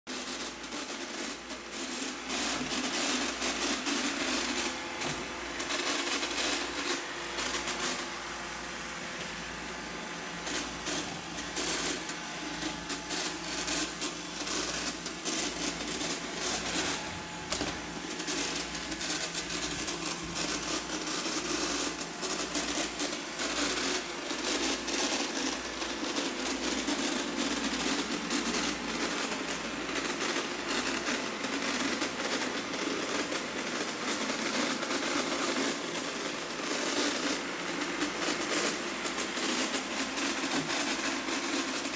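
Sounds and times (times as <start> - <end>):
robot vacuum motor hum: 0.1 - 34.1, 34.8 - 41.9.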